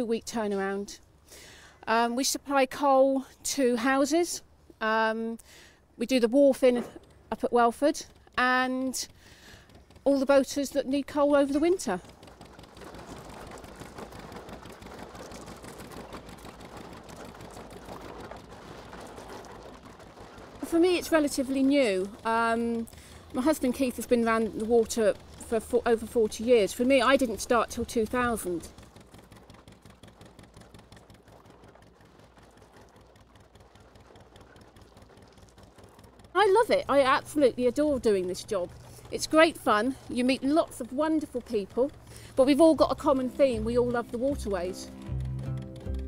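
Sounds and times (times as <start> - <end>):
diesel boat engine clattering: 6.6 - 46.0.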